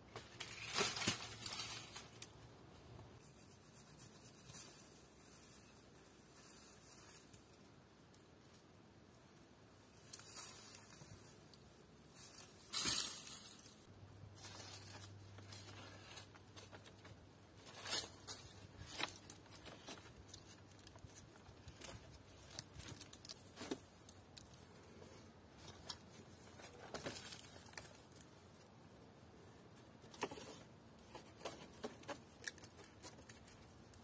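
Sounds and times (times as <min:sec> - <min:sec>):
rustling and crinkling: 0:00.0 - 0:34.0.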